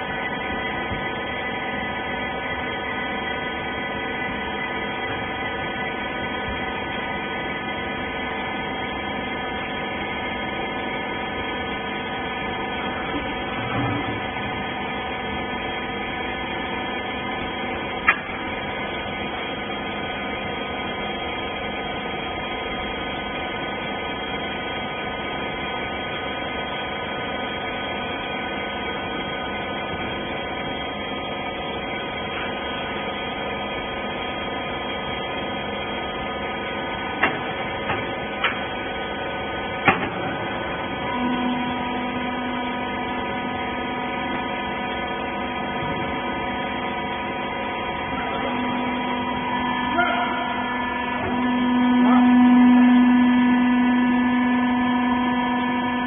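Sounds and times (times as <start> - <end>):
hydraulic motor and pump hum: 0.0 - 56.0.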